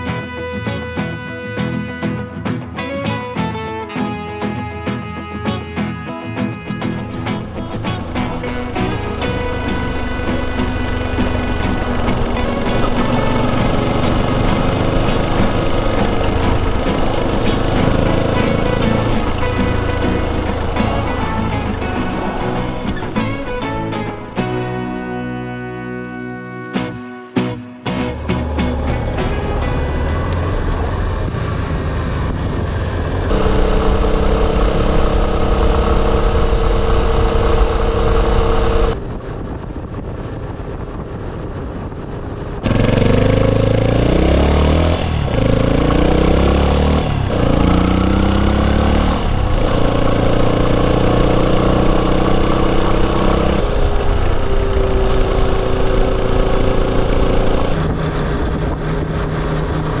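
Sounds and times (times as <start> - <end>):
motorcycle engine while riding: 6.8 - 25.2, 27.9 - 60.0.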